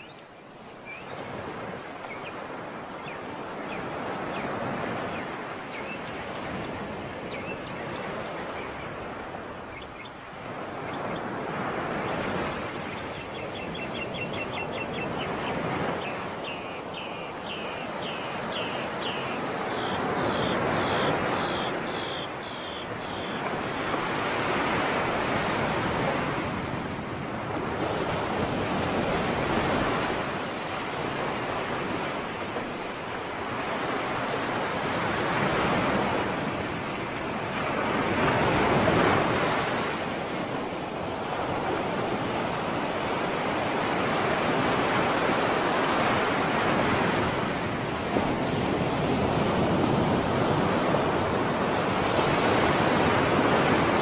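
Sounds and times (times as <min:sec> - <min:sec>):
waves washing onto shore: 0:00.0 - 0:54.0.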